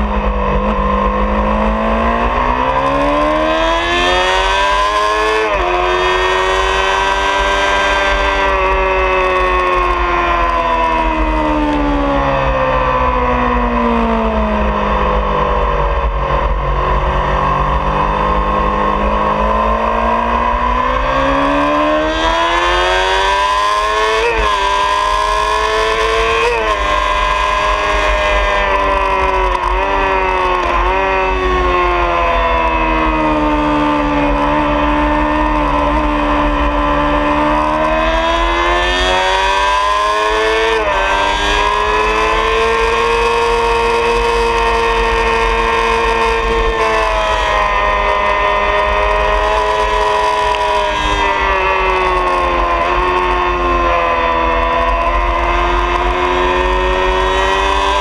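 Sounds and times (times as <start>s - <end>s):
motorcycle engine running hard: 0.0s - 58.0s.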